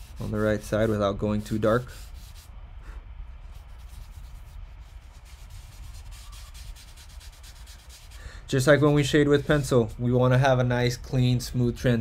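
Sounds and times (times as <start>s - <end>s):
tissue rubbing on paper: 0.0s - 10.0s.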